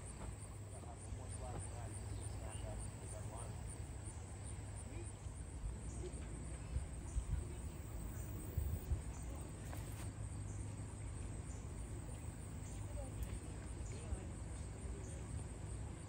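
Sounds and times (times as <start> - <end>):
low rumble on microphone: 0.0 - 16.0.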